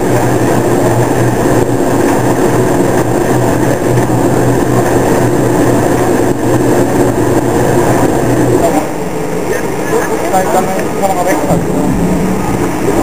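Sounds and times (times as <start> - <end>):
steam locomotive hum and hiss: 0.0 - 13.0.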